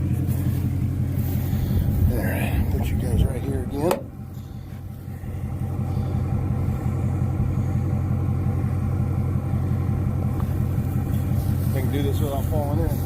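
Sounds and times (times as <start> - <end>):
farm vehicle engine idling: 0.0 - 13.0.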